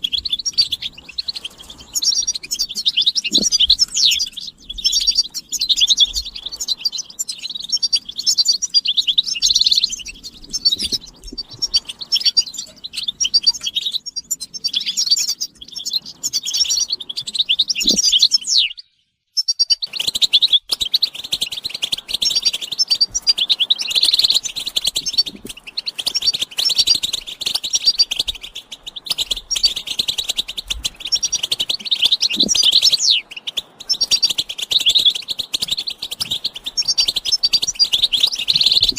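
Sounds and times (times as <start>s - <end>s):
finches twittering and singing: 0.0s - 38.9s.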